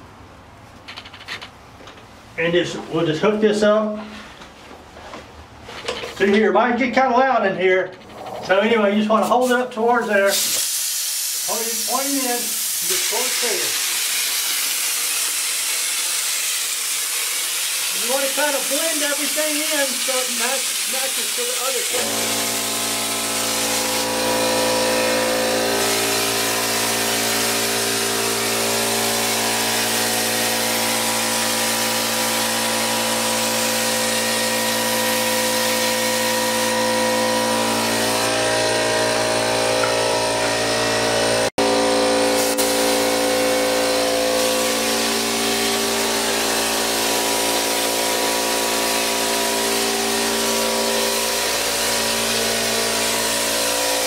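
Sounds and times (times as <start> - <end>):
compressed air spray hissing: 9.2 - 41.5, 42.1 - 54.0
air compressor motor humming: 10.4 - 54.0.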